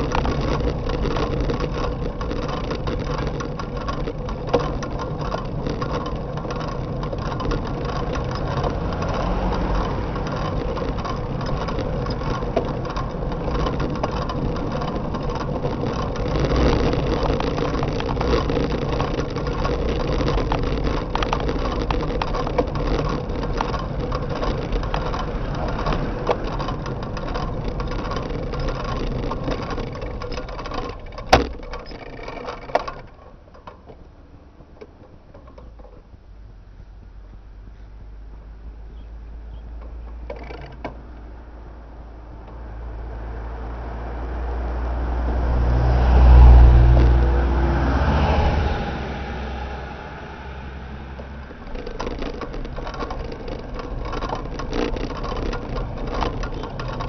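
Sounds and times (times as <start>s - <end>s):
wind and road rumble: 0.0s - 57.0s.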